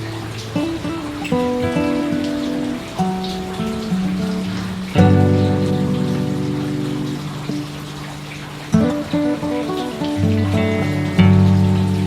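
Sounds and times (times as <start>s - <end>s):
calm instrumental music: 0.0s - 12.0s
steady rainfall: 0.0s - 12.0s.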